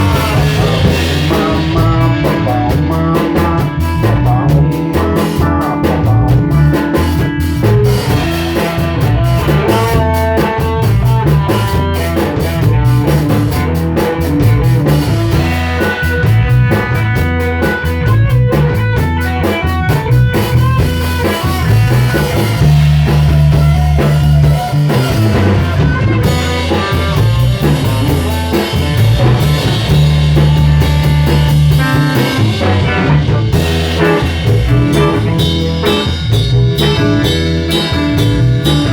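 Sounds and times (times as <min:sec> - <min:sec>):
band playing: 0:00.0 - 0:38.9.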